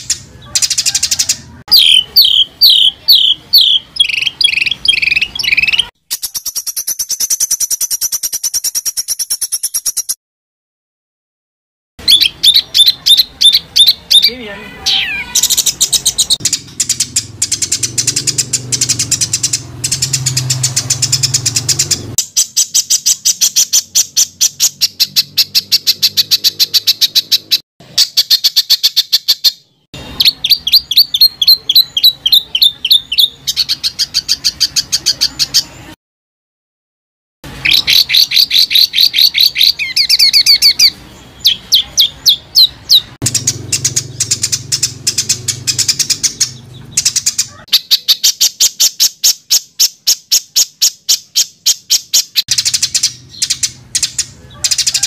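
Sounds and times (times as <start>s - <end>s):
songbird singing harsh notes: 0.0s - 10.2s, 12.0s - 36.0s, 37.5s - 55.0s.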